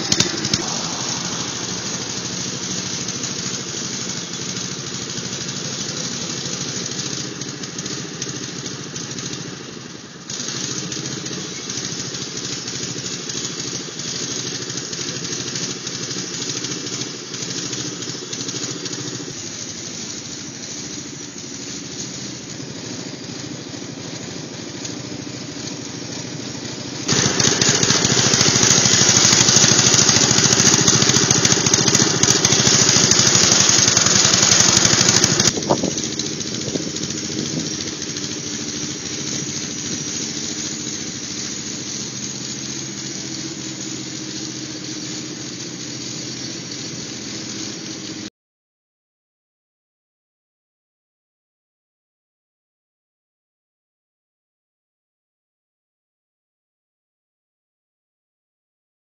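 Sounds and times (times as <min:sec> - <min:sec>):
riding mower engine running: 0:00.0 - 0:48.3.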